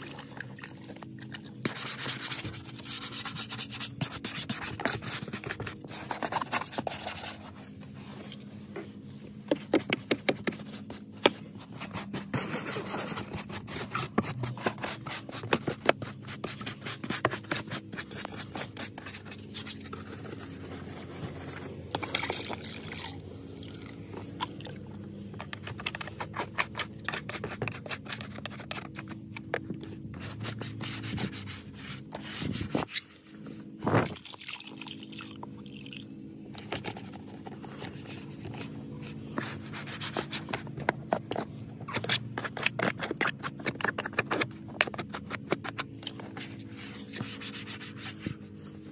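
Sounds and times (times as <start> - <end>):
brush scrubbing wet plastic: 1.2 - 8.3, 9.5 - 24.8, 25.4 - 33.5, 36.6 - 48.9.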